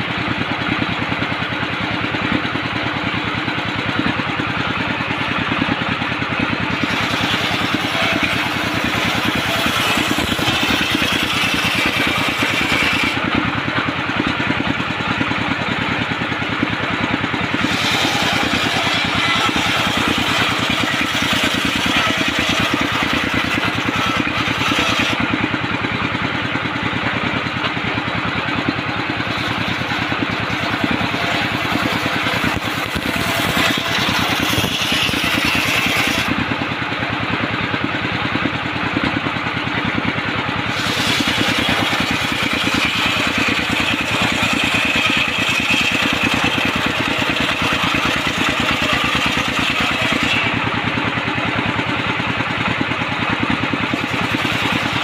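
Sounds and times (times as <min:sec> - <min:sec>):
engine puttering: 0:00.0 - 0:55.0
saw blade whining through wood: 0:00.0 - 0:55.0.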